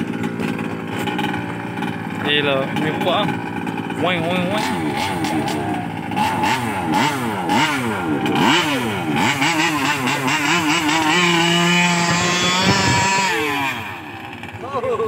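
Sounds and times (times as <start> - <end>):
small two-stroke engine revving: 0.0 - 15.0.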